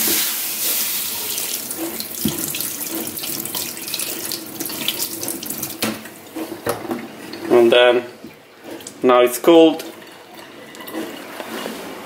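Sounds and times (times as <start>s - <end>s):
tap water running onto metal pot: 0.0s - 11.5s.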